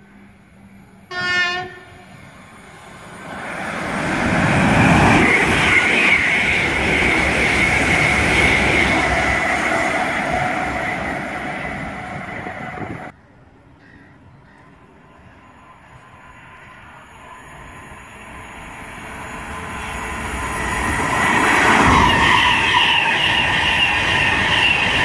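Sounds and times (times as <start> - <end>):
passing train rumble and rail noise: 0.0 - 25.0
train high whine: 0.0 - 25.0.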